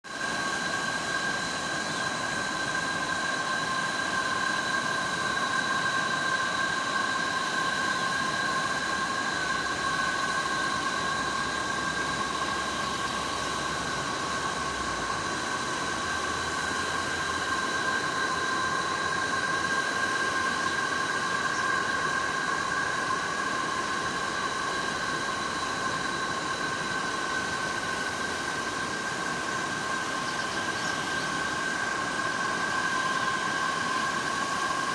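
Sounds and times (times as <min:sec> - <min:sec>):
constant hiss: 0:00.1 - 0:34.9
insects trilling: 0:00.1 - 0:34.9.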